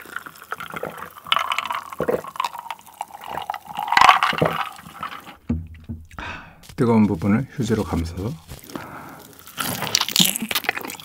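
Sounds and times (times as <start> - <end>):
sipping and gulping drink: 0.0 - 6.6, 8.6 - 11.0.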